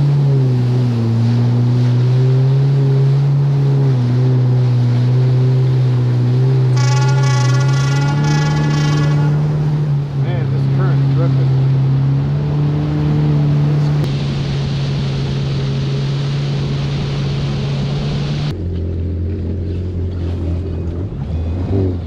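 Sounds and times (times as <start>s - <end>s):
water rushing: 0.0s - 19.1s
personal watercraft engine running: 0.0s - 22.0s.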